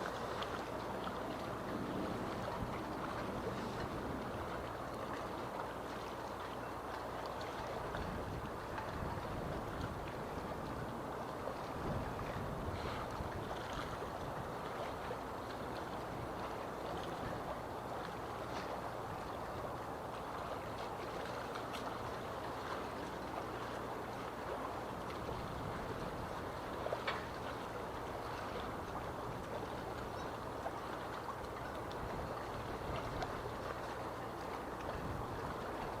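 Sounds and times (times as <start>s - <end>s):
waves lapping and splashing: 0.0s - 36.0s.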